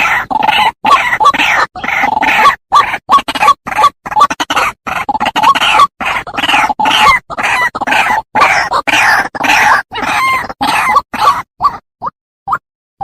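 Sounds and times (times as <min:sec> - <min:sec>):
waterhen harsh rasping calls: 0:00.0 - 0:11.8.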